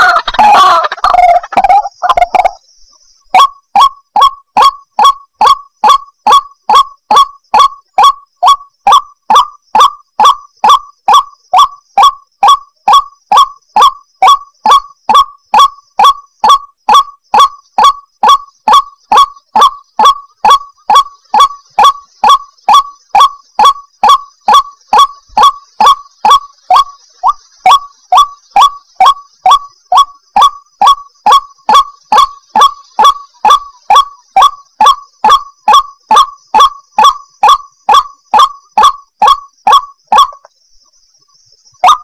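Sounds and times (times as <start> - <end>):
waterhen calling: 0.0 - 2.6, 3.3 - 40.5.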